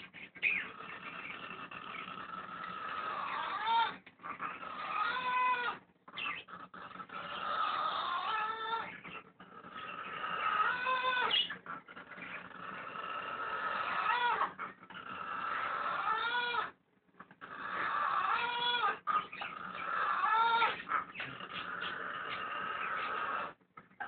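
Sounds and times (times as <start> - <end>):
parrot snoring: 0.0 - 23.6.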